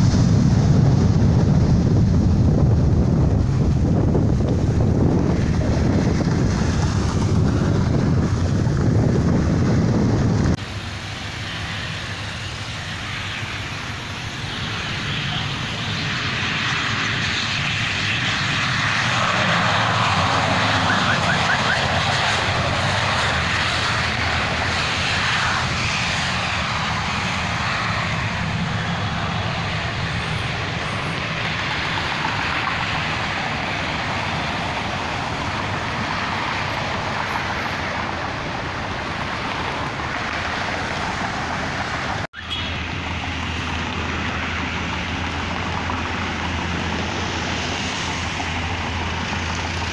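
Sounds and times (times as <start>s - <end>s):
aircraft engine noise: 0.0s - 49.9s
cars passing: 0.0s - 49.9s
wind buffeting microphone: 0.0s - 49.9s.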